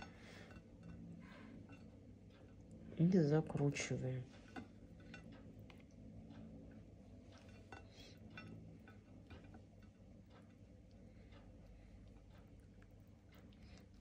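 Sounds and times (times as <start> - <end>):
faint clicks and light taps: 1.6 - 14.0.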